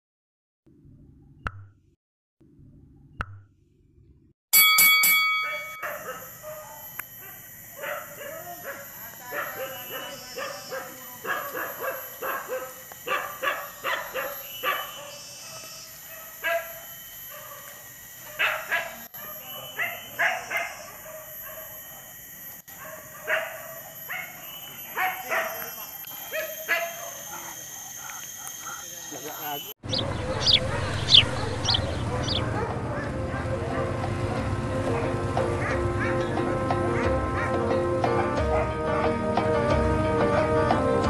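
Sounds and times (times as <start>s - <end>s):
dogs barking and yipping: 5.5s - 29.2s, 29.8s - 39.0s.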